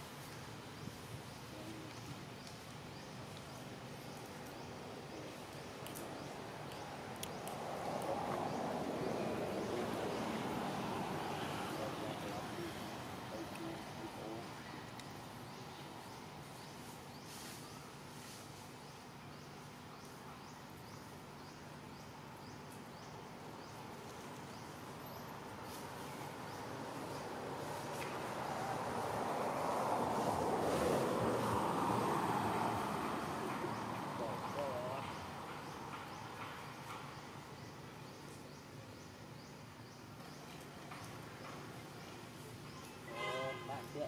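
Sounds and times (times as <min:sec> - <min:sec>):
faint outdoor background noise: 0:00.0 - 0:44.0.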